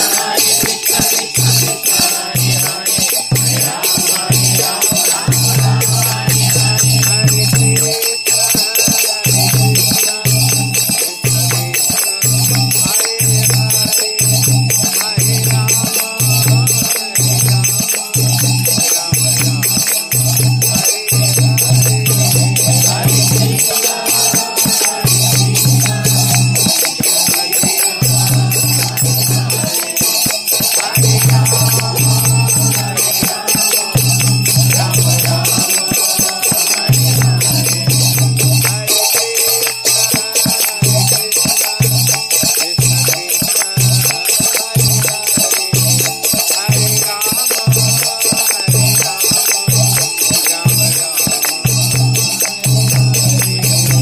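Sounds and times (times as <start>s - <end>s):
hand cymbals clashing: 0.0s - 54.0s.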